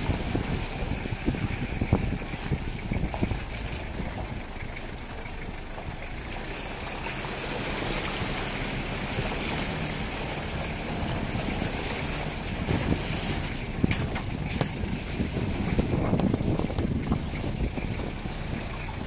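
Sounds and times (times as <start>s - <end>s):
tyres splashing through puddles: 0.0s - 19.0s
vehicle engine running: 0.0s - 19.0s.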